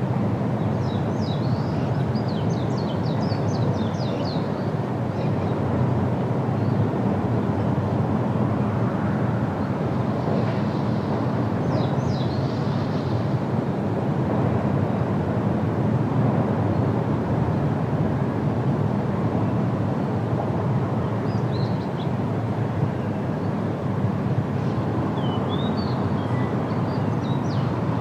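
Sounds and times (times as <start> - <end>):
wind rushing through foliage: 0.0 - 28.0.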